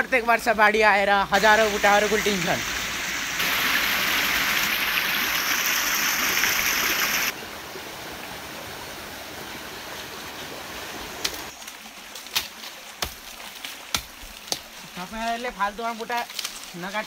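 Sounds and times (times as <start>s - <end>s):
stream cascading over boulders: 0.3s - 17.0s.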